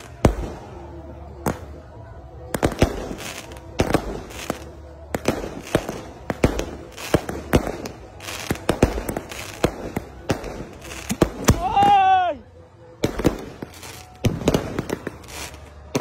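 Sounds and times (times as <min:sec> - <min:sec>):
fireworks bangs: 0:00.0 - 0:01.8, 0:02.4 - 0:12.2, 0:13.0 - 0:16.0.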